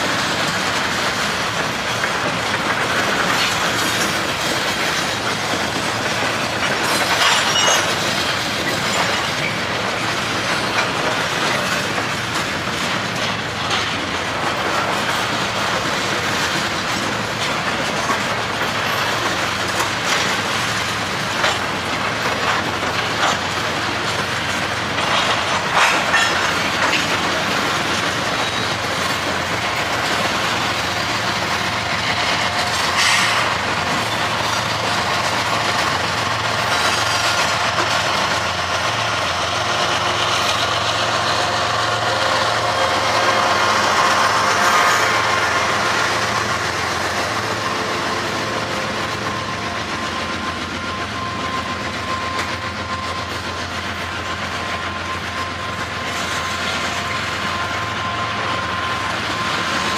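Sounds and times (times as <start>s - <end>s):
train wheels rumbling on rails: 0.0s - 59.9s
wheels clacking over rail joints: 0.0s - 59.9s.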